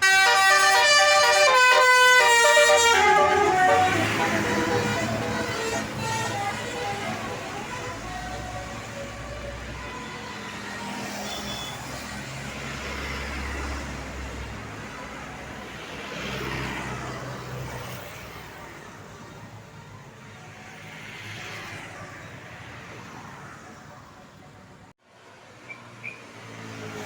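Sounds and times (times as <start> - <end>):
vehicles passing close by: 0.0 - 27.0.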